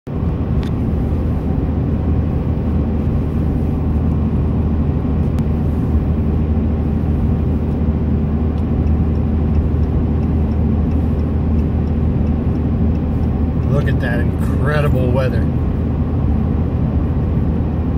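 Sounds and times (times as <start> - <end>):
car cabin road and engine rumble: 0.1 - 17.9.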